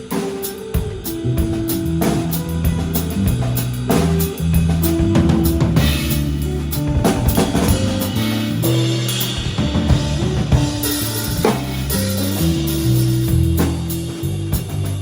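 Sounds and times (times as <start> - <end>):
busy drumming: 0.0 - 15.0
electric bass notes: 0.0 - 15.0
electric guitar playing: 0.0 - 15.0.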